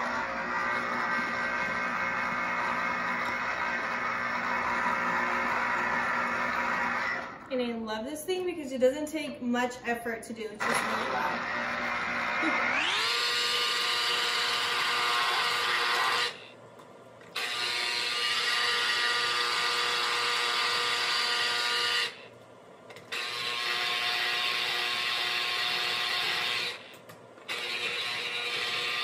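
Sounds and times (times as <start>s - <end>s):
citrus juicer motor whining: 0.0s - 7.5s, 10.6s - 16.6s, 17.3s - 22.3s, 23.0s - 29.0s.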